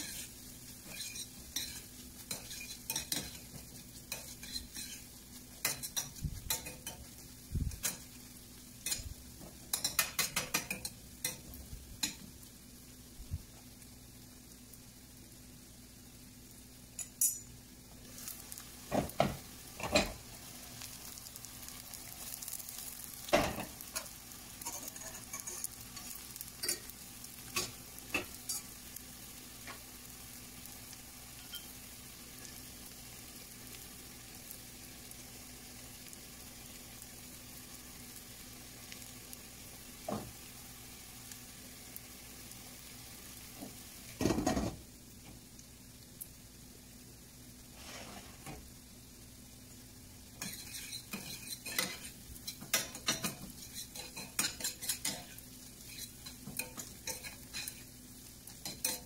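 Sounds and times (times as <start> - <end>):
food sizzling in pans: 0.0 - 59.0.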